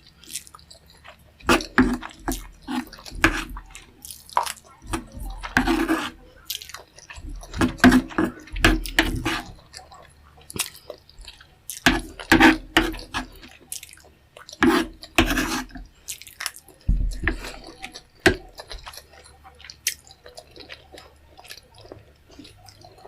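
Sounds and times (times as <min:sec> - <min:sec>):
wet chewing and lip smacks: 0:00.0 - 0:05.6, 0:06.2 - 0:23.0.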